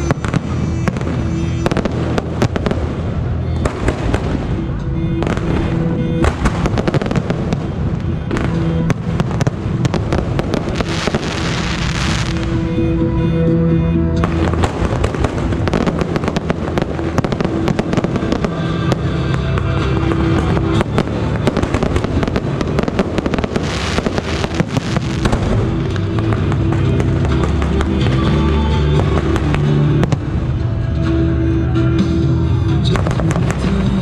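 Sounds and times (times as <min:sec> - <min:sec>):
fireworks bangs and crackles: 0:00.0 - 0:12.8, 0:14.2 - 0:31.1, 0:32.8 - 0:34.0
background music: 0:00.0 - 0:34.0.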